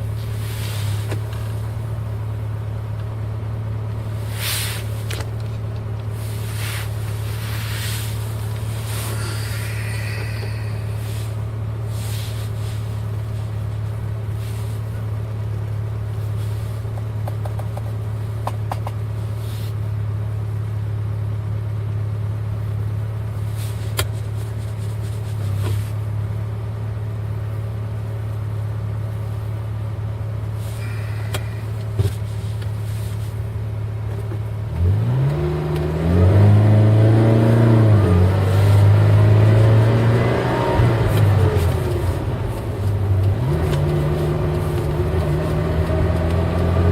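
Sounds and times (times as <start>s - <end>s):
car engine droning: 0.0s - 46.9s.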